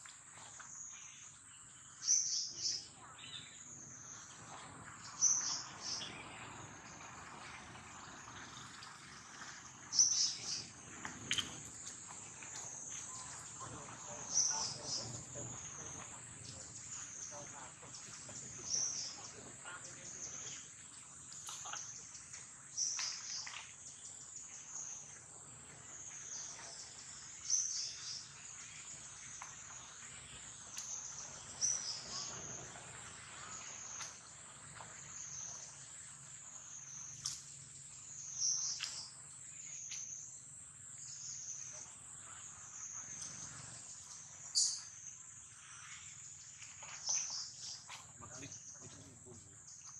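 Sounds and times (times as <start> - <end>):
insect chorus: 0.0 - 49.9
sharp high insect calls: 0.6 - 7.0, 8.5 - 25.2, 25.8 - 49.9.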